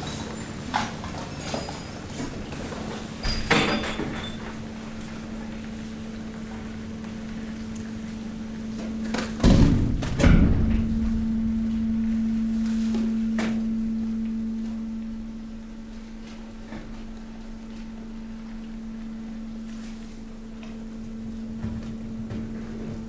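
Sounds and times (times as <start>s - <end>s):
compactor pump humming: 0.0s - 23.0s.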